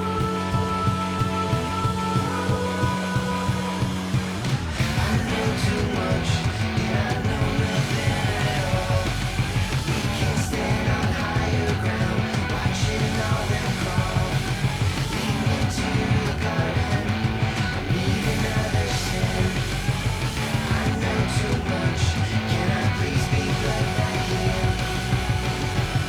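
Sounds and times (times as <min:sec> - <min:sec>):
distorted rock guitars: 0:00.0 - 0:26.0
driving drum beat: 0:00.0 - 0:26.0
person singing: 0:00.0 - 0:26.0.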